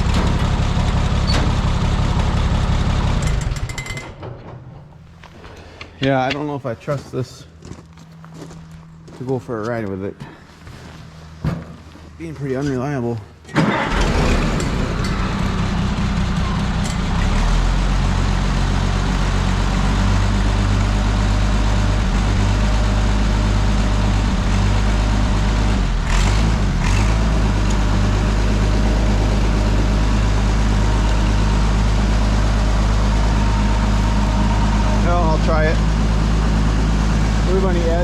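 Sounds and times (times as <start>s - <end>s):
tractor engine running: 0.0s - 7.2s, 13.5s - 38.0s.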